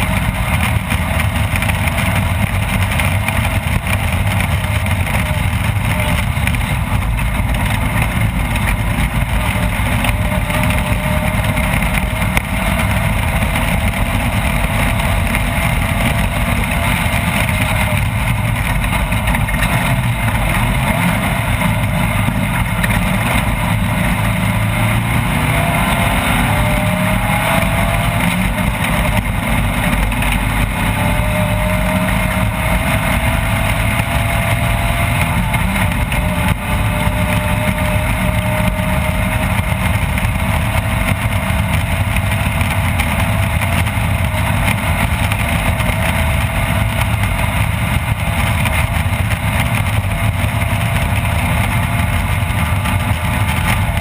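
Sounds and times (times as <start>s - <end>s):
race vehicle engine running: 0.0s - 54.0s
rumble of running gear: 0.0s - 54.0s.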